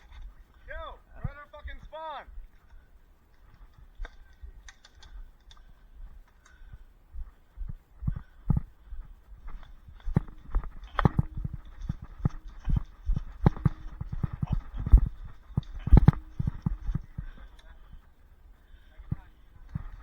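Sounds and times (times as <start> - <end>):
footsteps on the ground: 0.0 - 18.2.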